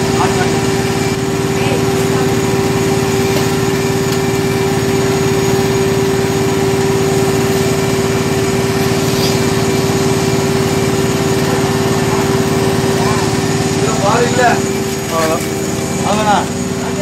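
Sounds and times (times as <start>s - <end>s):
milking machine pump humming: 0.0s - 17.0s.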